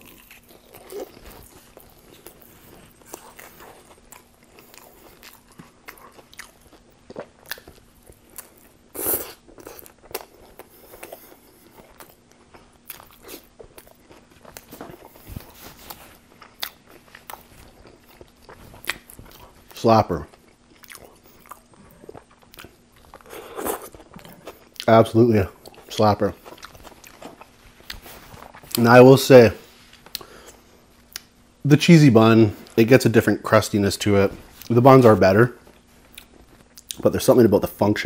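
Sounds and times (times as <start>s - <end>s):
chewing crunchy sandwich: 0.0s - 31.5s, 34.0s - 37.8s.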